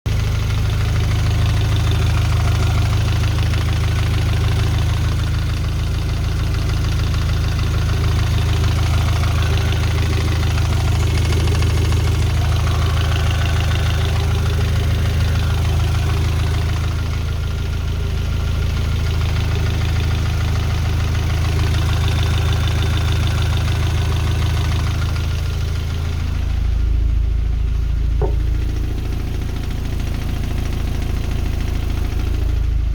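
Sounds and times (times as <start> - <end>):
car engine running with knock: 0.1 - 32.9.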